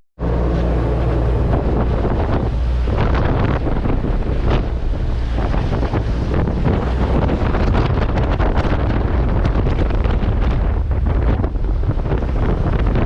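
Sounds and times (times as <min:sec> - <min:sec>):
rushing river water: 0:00.2 - 0:13.0
wind buffeting microphone: 0:00.2 - 0:13.0.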